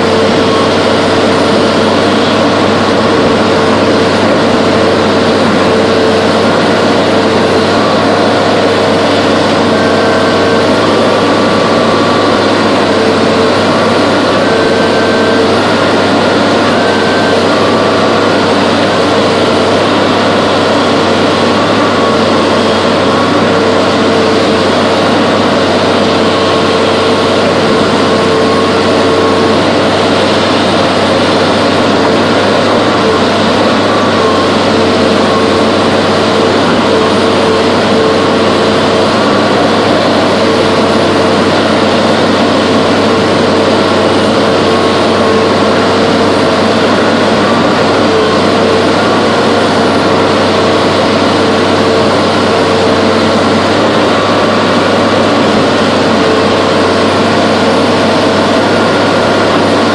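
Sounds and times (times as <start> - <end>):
diesel engine running: 0.0 - 59.9
steady whining tone: 0.0 - 59.9.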